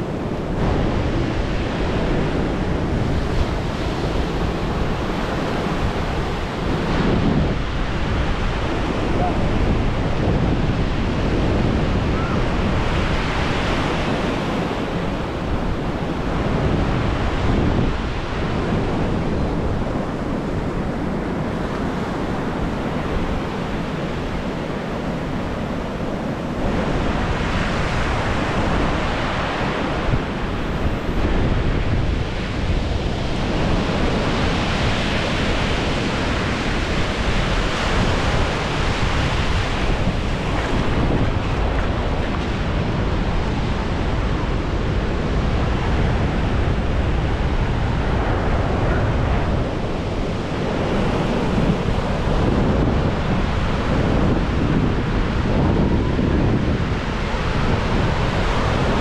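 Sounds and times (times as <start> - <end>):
surf washing onto beach: 0.0 - 59.0
wind buffeting microphone: 0.0 - 59.0.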